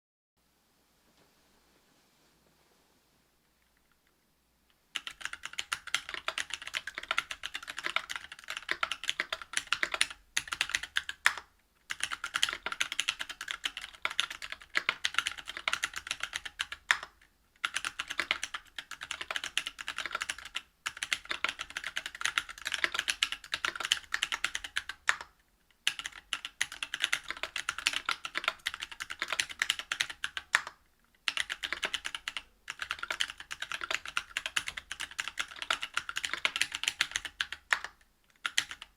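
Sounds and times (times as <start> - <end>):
mechanical keyboard typing: 5.0 - 38.9.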